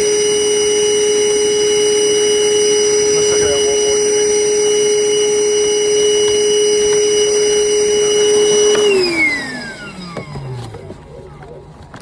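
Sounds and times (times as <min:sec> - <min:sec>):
electric motor whirring: 0:00.0 - 0:12.0.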